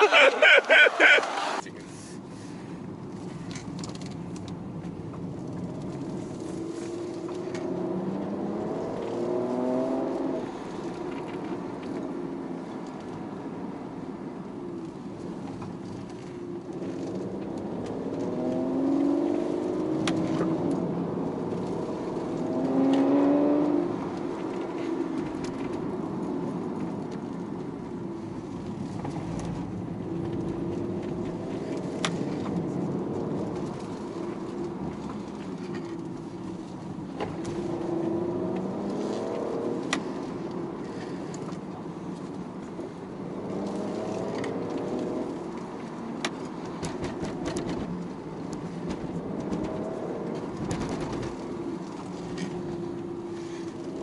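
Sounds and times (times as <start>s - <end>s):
road noise: 0.0s - 54.0s
car engine accelerating: 3.0s - 54.0s.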